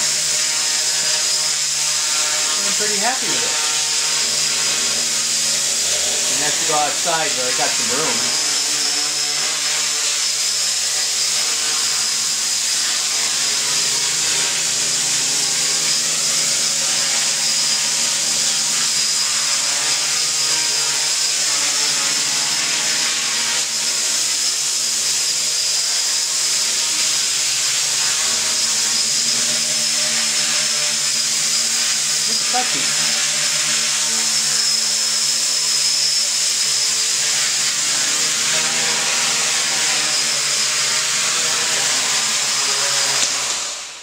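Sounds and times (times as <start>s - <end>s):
quadcopter motors whining: 0.0s - 44.0s.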